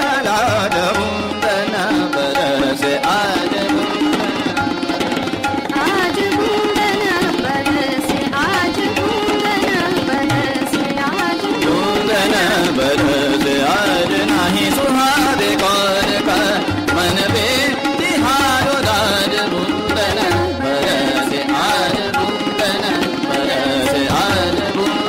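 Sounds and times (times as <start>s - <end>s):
harmonium: 0.0s - 25.0s
man singing: 0.0s - 25.0s
tabla playing: 0.0s - 25.0s.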